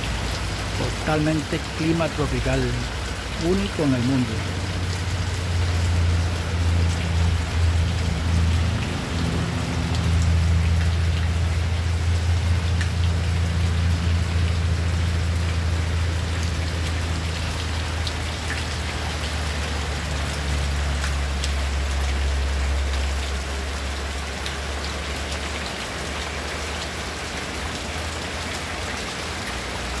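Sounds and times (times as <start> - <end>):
heavy rain falling: 0.0 - 30.0
water pouring off roof splashing: 0.0 - 30.0.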